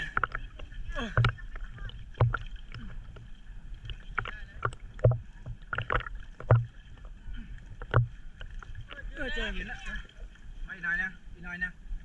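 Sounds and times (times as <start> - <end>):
water slapping against boat hull: 0.0 - 10.3
constant low hum: 0.0 - 12.0.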